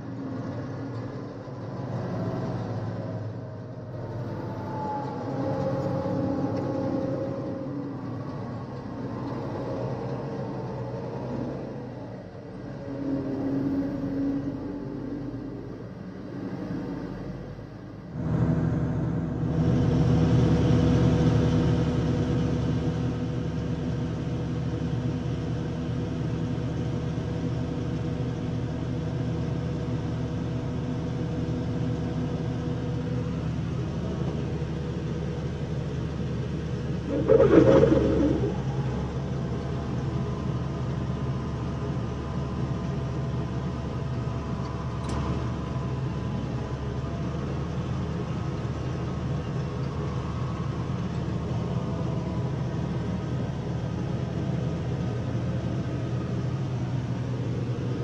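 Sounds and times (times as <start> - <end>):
combine engine droning: 0.0 - 58.0.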